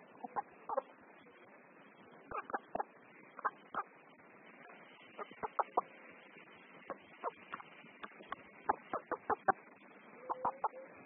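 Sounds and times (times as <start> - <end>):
chickens clucking: 0.0 - 1.0, 2.2 - 3.9, 4.6 - 10.9.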